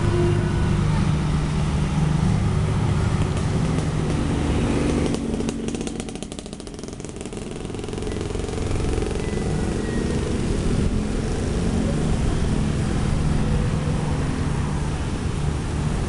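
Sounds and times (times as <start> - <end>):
heavy engine rumbling: 0.0 - 16.0.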